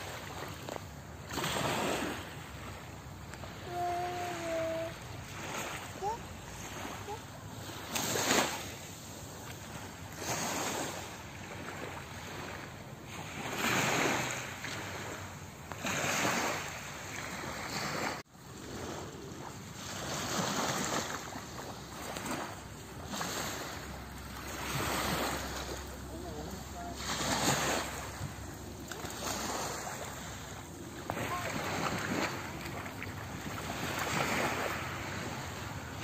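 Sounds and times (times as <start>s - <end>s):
small waves washing on sand: 0.0s - 36.0s.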